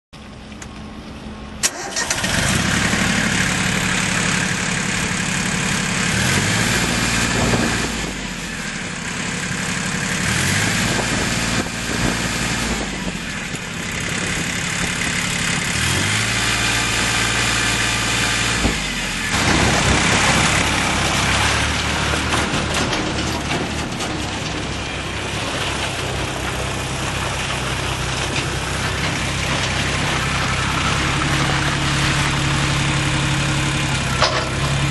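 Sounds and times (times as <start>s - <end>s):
tractor engine starting and revving: 1.2s - 34.9s.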